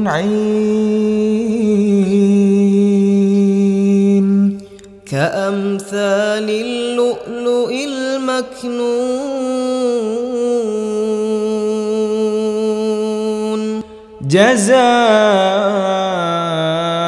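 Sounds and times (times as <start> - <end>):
person chanting recitation: 0.0 - 17.0.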